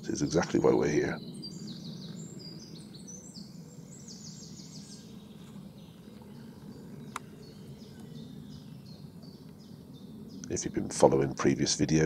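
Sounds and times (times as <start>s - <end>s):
faint steady background noise: 0.0s - 12.0s
small birds singing: 0.0s - 12.0s.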